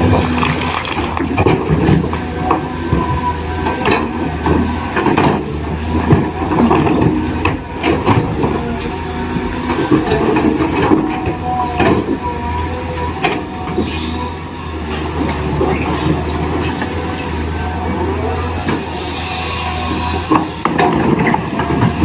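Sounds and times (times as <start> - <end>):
toy excavator motor humming: 0.0 - 22.0.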